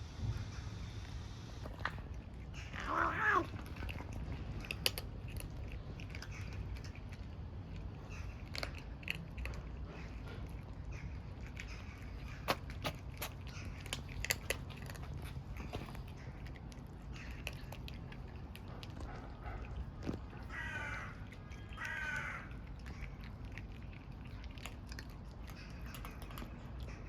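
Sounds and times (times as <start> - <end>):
kitten crunching food: 1.0 - 27.0.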